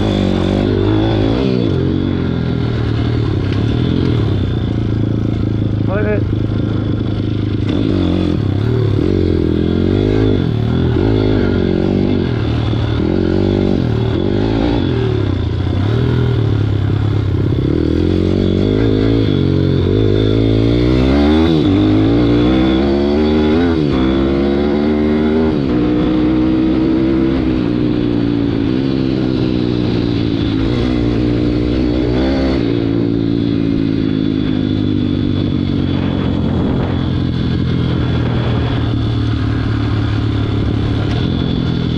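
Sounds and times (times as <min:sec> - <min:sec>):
pit bike engine revving: 0:00.0 - 0:41.9.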